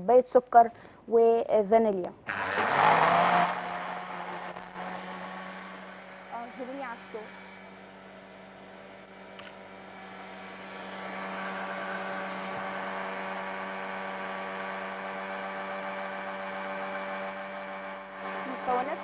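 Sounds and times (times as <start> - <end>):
electric blender running: 2.2 - 19.0.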